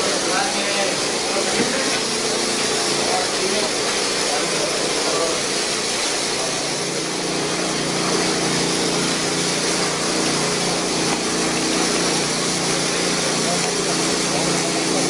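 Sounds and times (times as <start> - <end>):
machine running: 0.0 - 15.0
steady hum: 0.0 - 15.0.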